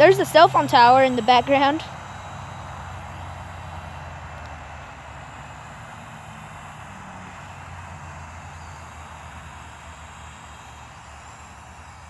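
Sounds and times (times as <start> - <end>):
toy helicopter rotor whir: 0.0 - 12.0.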